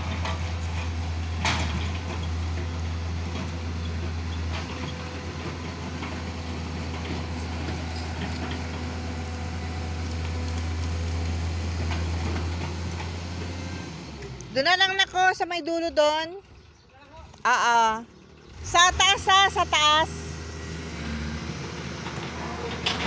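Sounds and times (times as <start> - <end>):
excavator diesel engine running: 0.0 - 16.9, 17.5 - 23.0.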